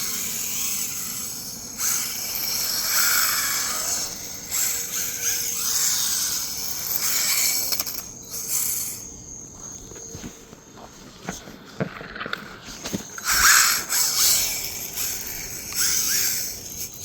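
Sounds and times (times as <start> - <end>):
rc car motor whirring: 0.0 - 10.4, 12.1 - 17.0.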